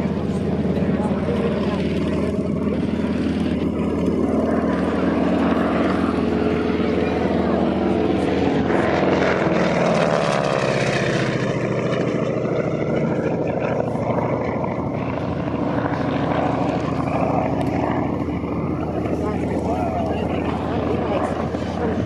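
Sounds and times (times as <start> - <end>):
propeller planes flying past: 0.0 - 22.0.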